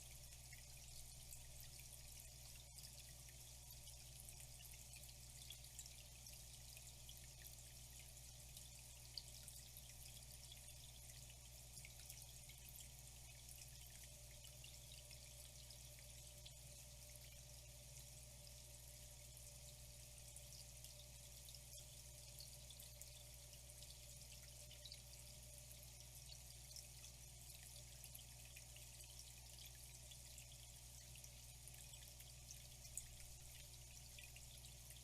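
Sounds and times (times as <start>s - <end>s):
water trickling and dripping: 0.0s - 35.0s.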